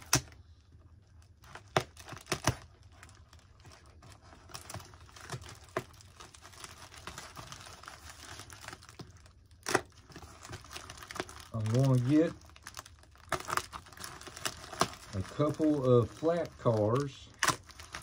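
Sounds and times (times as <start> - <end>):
plastic packaging tearing and crinkling: 0.0 - 0.4, 1.0 - 18.0.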